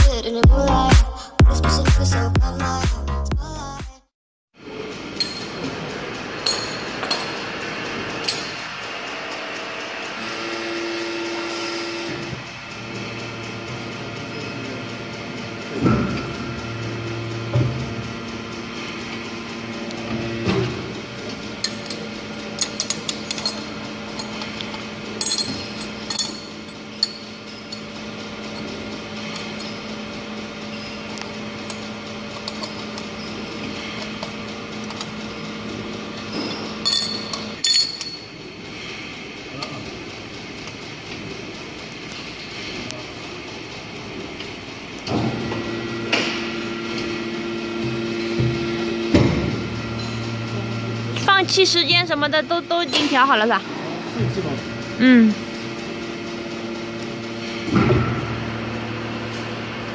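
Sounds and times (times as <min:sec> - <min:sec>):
hydraulic press humming: 0:04.6 - 0:59.9.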